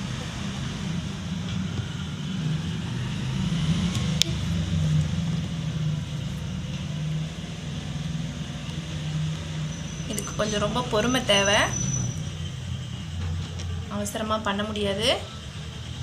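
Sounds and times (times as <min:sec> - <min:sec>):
road traffic drone: 0:00.0 - 0:16.0.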